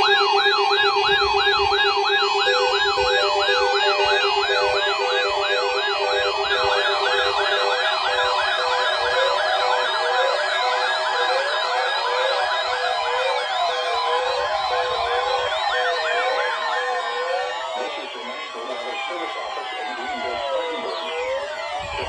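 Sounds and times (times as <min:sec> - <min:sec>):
electronic siren wailing: 0:00.0 - 0:22.0.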